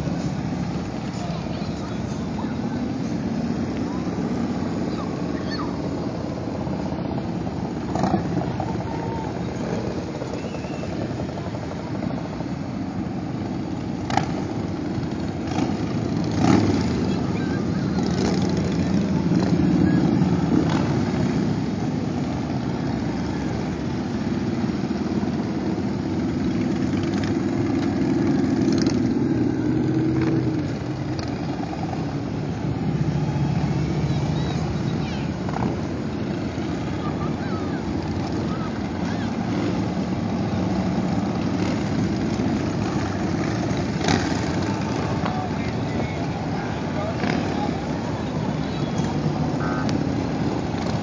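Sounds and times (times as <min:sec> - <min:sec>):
motorcycle engines running: 0:00.0 - 0:51.0.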